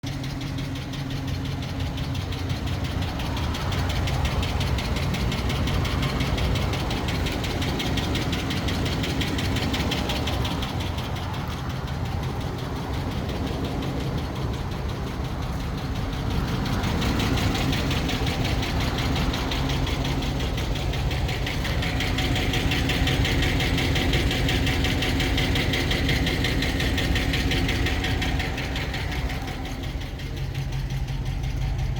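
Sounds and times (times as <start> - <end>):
engine idling with rapid ticking: 0.0 - 31.9.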